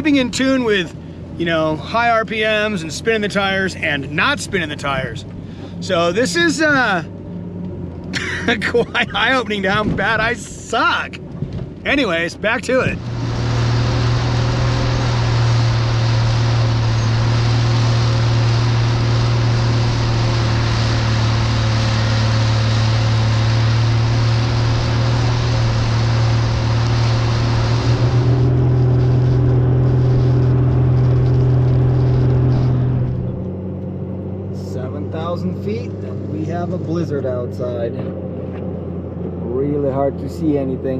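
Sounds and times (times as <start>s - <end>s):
vehicle engine hum: 0.0s - 40.9s.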